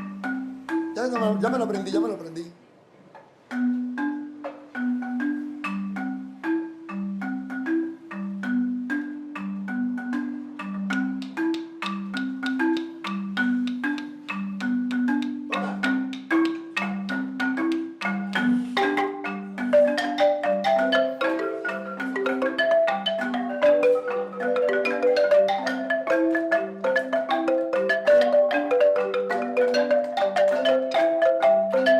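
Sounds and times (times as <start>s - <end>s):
marimba playing low figure: 0.0s - 2.6s, 3.3s - 31.9s
higher marimba melody: 0.0s - 2.7s, 3.3s - 31.9s.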